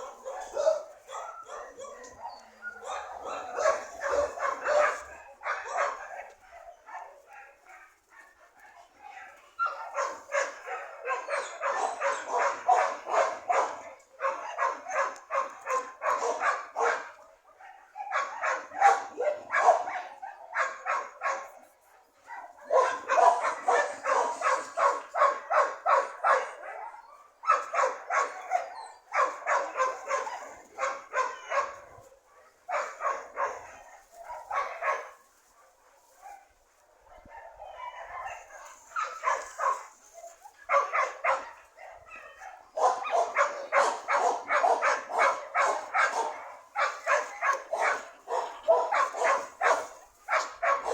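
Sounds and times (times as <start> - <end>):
dog barking: 0.0 - 50.9.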